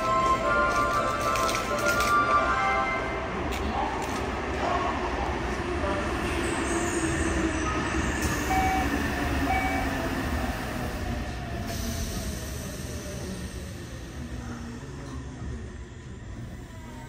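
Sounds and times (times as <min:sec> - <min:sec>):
stopped train humming: 0:00.0 - 0:17.0
train sliding doors closing: 0:00.0 - 0:17.0.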